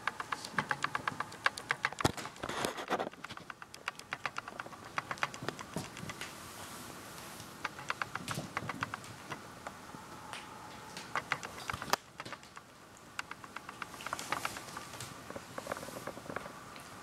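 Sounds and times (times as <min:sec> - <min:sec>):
kitten claws clicking on wood floor: 0:00.0 - 0:06.4, 0:07.4 - 0:09.4, 0:10.9 - 0:16.2
kittens scuffling: 0:00.0 - 0:09.8, 0:10.4 - 0:16.6.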